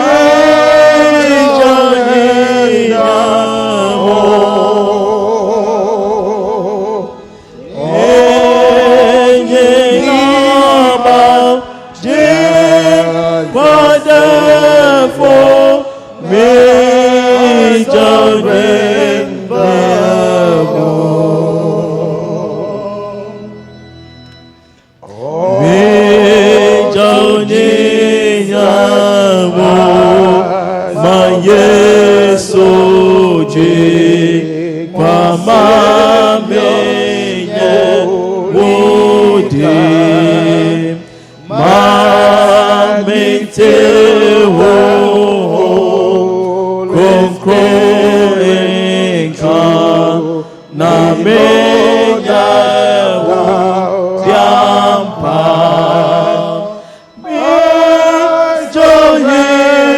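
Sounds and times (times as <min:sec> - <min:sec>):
church song singing: 0:00.0 - 0:59.9.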